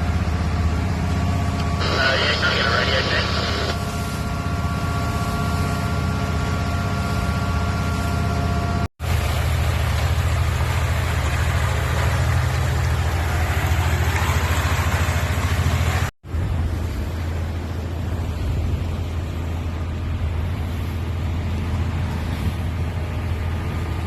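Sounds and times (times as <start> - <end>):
faint steady whine: 0.0 - 24.0
vehicle engine running: 0.0 - 24.0.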